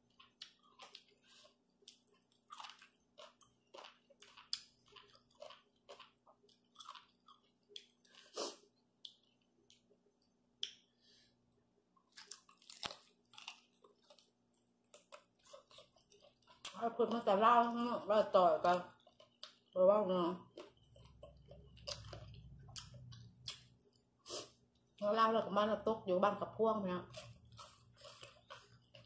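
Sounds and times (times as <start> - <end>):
food crunching: 0.0 - 10.9, 12.0 - 25.0, 27.0 - 29.0
wet chewing and lip-smacking: 0.0 - 10.9, 12.0 - 17.3, 18.6 - 19.8, 20.4 - 25.0, 27.1 - 29.0.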